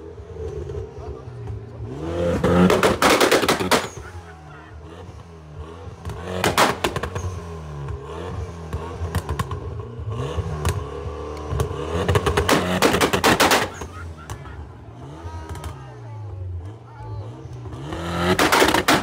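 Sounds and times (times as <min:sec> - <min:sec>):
car engine revving: 0:00.0 - 0:19.0
exhaust popping and crackling: 0:00.5 - 0:16.0, 0:17.4 - 0:19.0.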